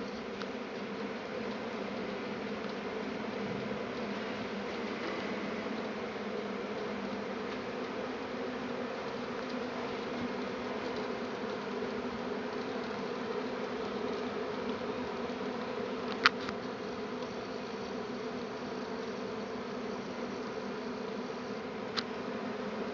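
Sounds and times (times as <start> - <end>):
swarm of bees droning: 0.0 - 22.9.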